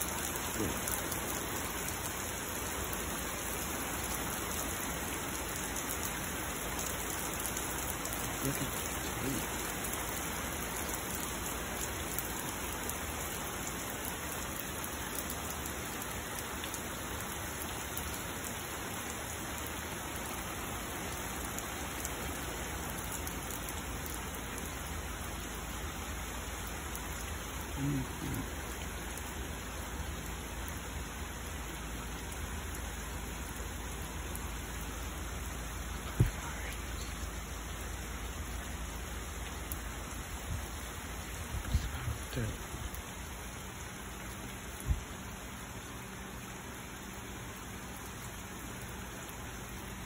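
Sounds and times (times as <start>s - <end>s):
rain on concrete and car: 0.0s - 50.0s.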